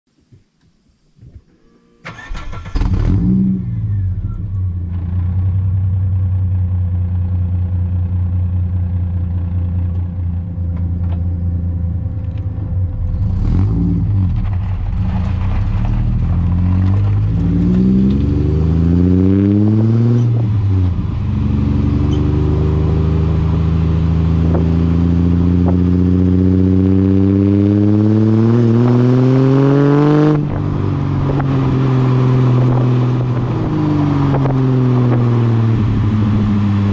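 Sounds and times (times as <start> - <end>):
car engine idling and revving: 2.0 - 36.9.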